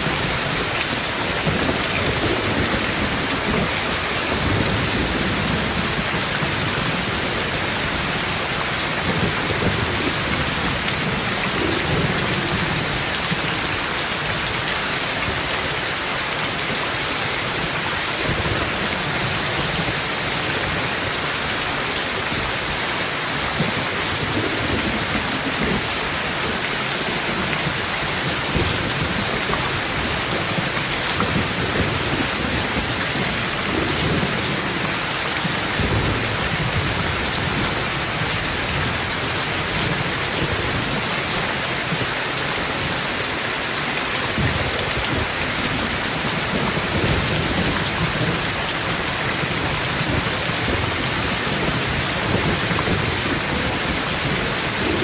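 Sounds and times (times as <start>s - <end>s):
thunder rumbling: 0.0s - 15.5s, 22.3s - 43.0s, 44.2s - 55.0s
heavy rain falling: 0.0s - 55.0s.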